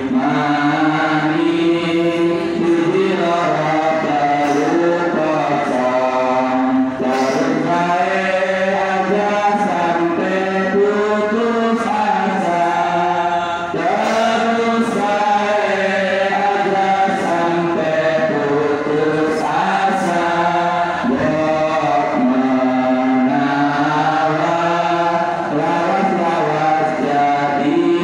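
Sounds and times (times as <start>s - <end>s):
men chanting: 0.0s - 28.0s.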